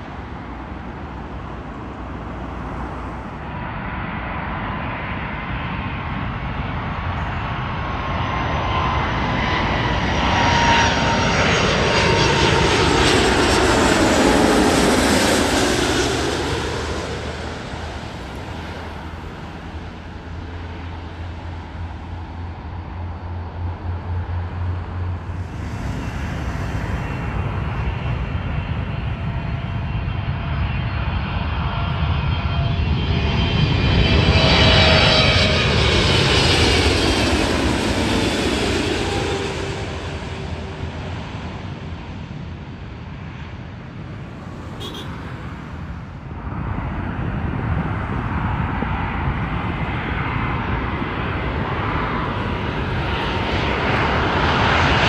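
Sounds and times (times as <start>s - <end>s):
jet airliner passing overhead: 0.0s - 55.0s.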